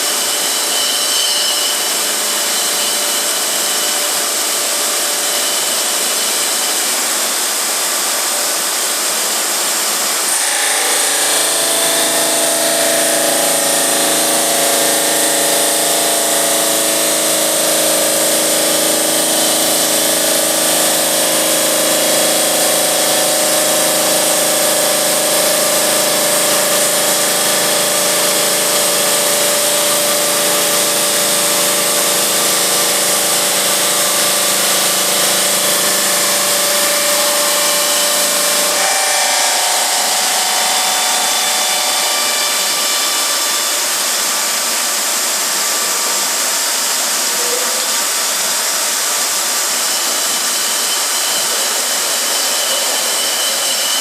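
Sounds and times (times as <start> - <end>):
stone saw cutting with loud hiss: 0.0 - 54.0.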